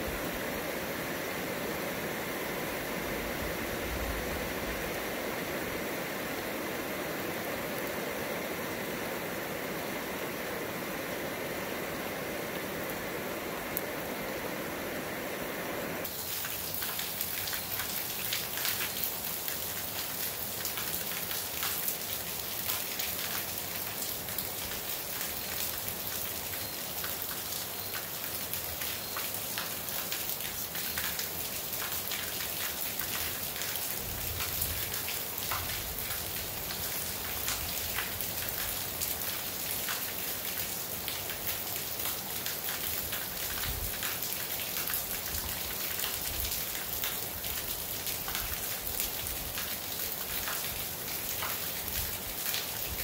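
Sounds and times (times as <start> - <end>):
heavy rain on trees: 0.0 - 53.0.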